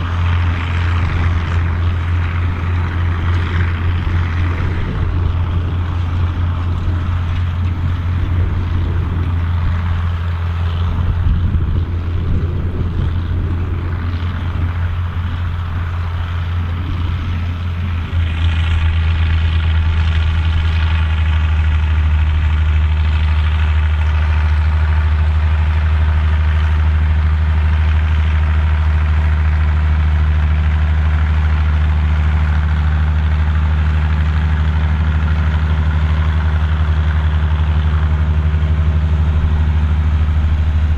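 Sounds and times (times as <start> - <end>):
tractor diesel engine droning: 0.0 - 40.9.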